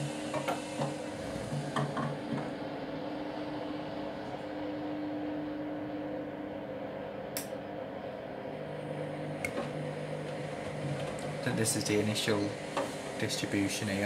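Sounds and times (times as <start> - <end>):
washing machine drum motor humming: 0.0 - 14.0.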